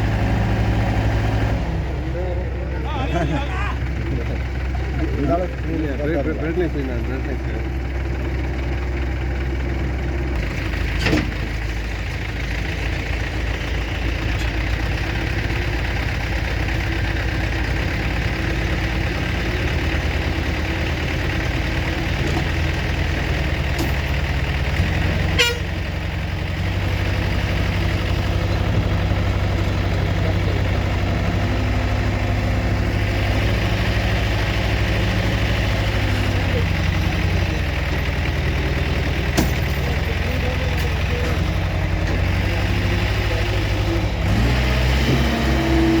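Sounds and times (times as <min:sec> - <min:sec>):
heavy vehicle engine running: 0:00.0 - 0:46.0.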